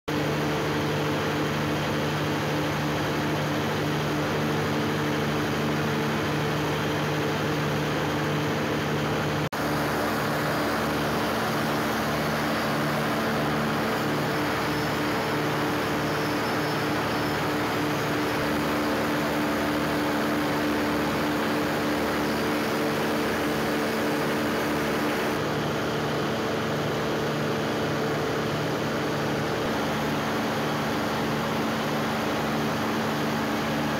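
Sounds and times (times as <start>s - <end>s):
generator engine droning: 0.1s - 33.9s.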